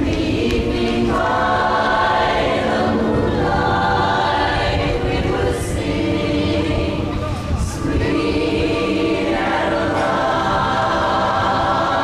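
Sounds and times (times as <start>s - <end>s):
women's chorus singing in harmony: 0.0s - 12.0s.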